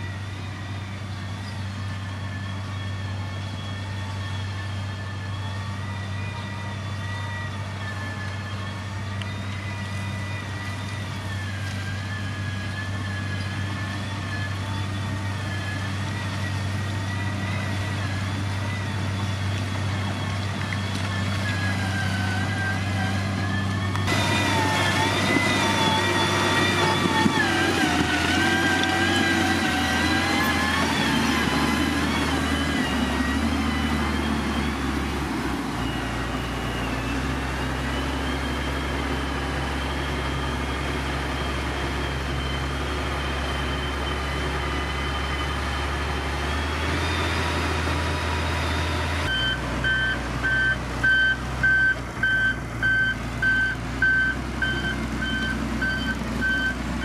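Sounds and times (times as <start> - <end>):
construction machine diesel engine: 0.0 - 57.0
reversing alarm beeping: 0.0 - 57.0.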